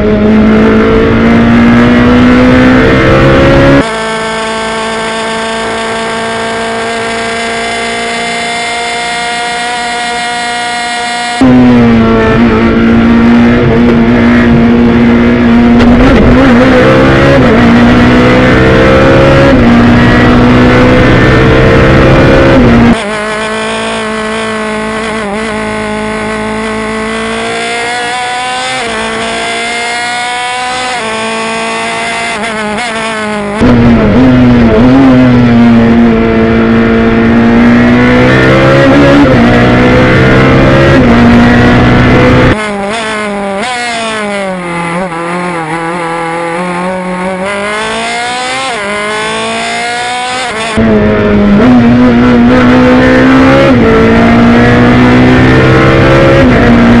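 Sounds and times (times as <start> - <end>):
race car engine revving through gears: 0.0 - 57.0.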